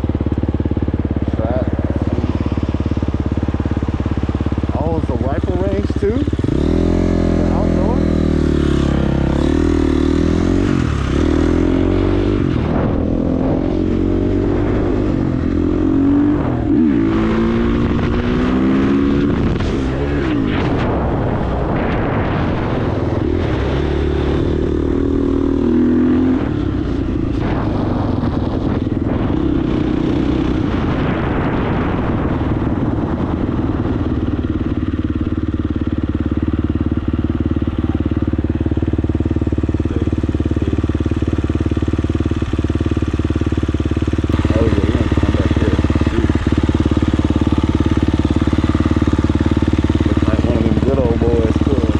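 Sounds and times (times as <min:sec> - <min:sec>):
dirt bike engine revving: 0:00.0 - 0:32.6, 0:33.2 - 0:51.9.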